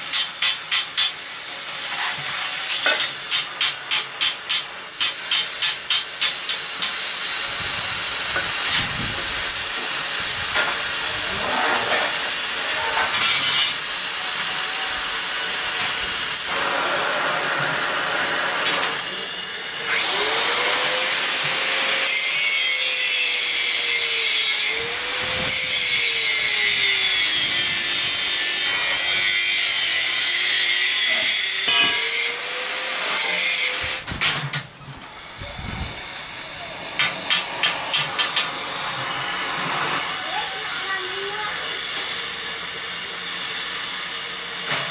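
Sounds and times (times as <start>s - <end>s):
cutting torch hissing: 0.0s - 34.1s, 35.0s - 44.9s.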